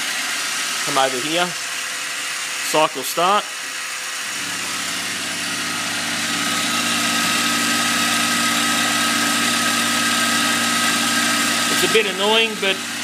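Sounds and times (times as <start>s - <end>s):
milling machine spindle whining: 0.0s - 13.0s.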